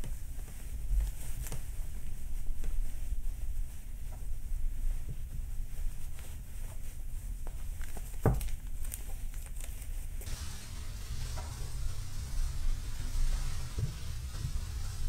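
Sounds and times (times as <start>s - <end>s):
fabric rustling and patting: 0.0s - 15.0s.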